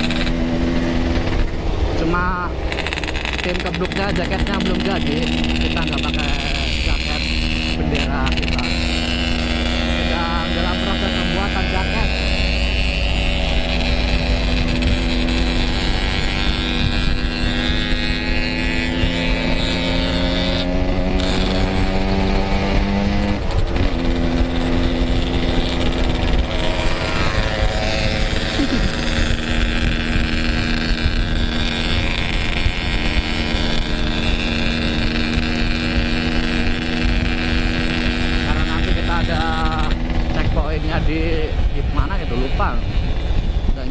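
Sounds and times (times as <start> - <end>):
two-stroke motorcycle engine: 0.0 - 43.9
wind rumble on microphone: 0.0 - 43.9.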